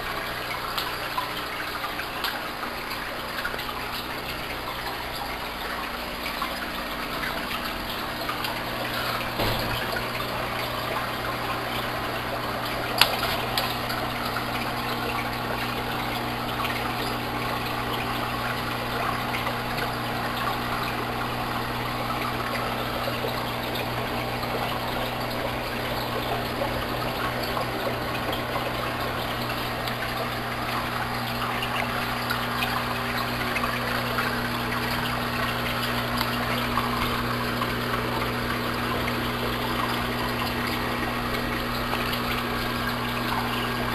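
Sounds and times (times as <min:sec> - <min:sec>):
aquarium air pumps humming: 0:00.0 - 0:43.9
filter water splashing: 0:00.0 - 0:43.9.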